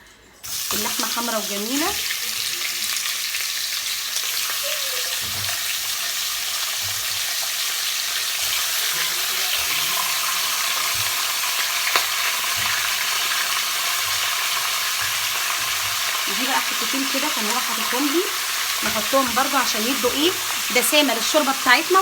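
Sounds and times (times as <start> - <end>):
meat sizzling in a pot: 0.4 - 22.0.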